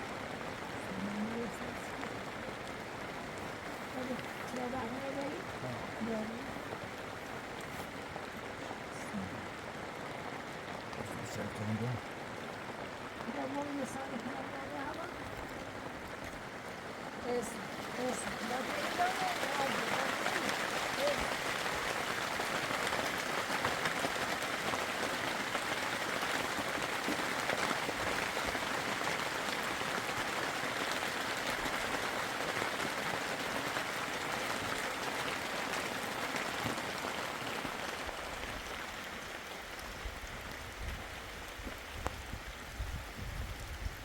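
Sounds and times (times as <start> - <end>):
heavy rain hiss: 0.0 - 44.0.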